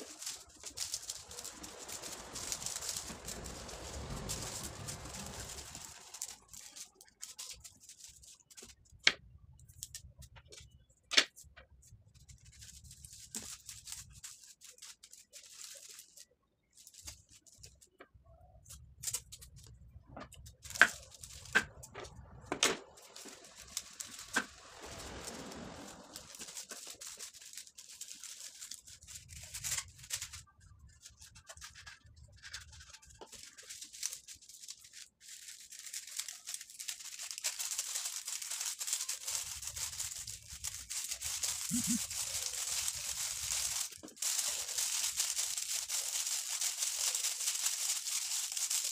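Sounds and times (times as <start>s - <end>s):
crinkling plastic and foil wrapping: 0.0s - 48.9s.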